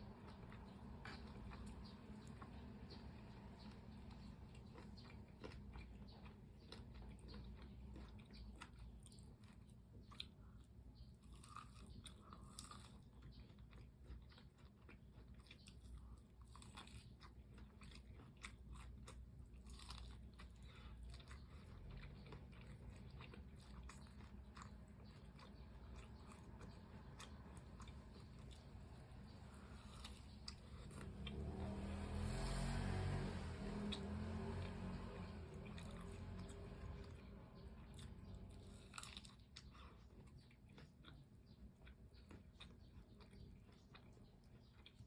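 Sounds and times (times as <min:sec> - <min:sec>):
crunchy chewing of fried food: 0:00.0 - 0:45.0.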